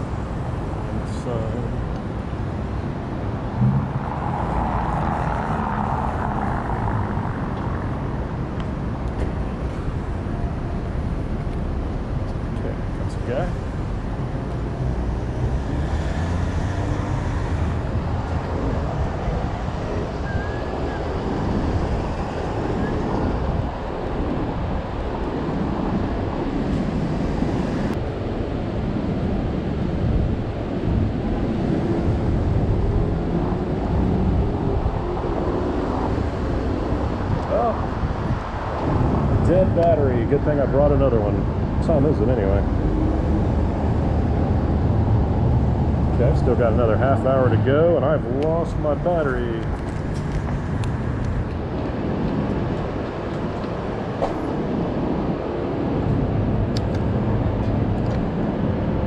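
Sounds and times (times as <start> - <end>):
traffic rumble: 0.0 - 59.0
wind buffeting microphone: 0.0 - 59.0
vehicle passing: 2.2 - 8.3, 9.3 - 28.0, 30.6 - 58.4.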